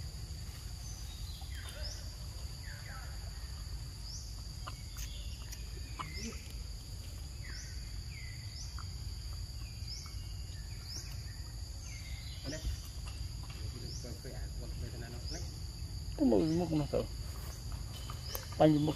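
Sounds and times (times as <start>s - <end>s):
insects droning: 0.0s - 18.9s.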